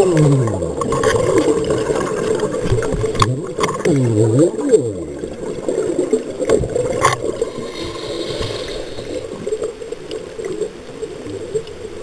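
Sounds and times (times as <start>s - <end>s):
underwater regulator bubbles gurgling: 0.0s - 12.0s.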